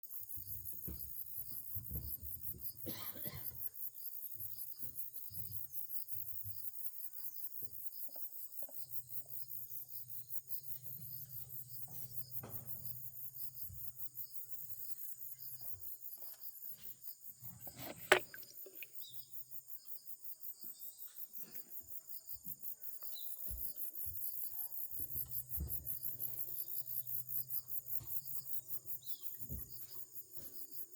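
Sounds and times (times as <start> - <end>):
insects trilling: 0.1 - 30.9.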